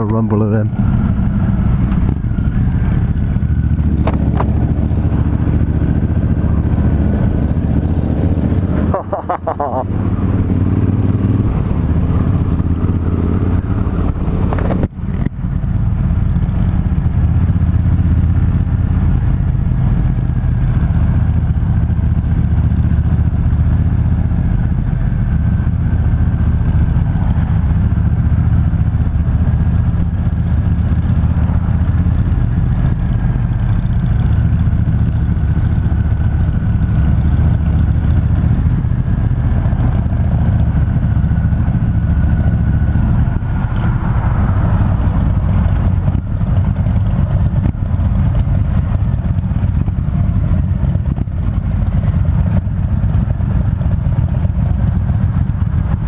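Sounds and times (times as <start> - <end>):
motorcycle engines rumbling: 0.0 - 56.0.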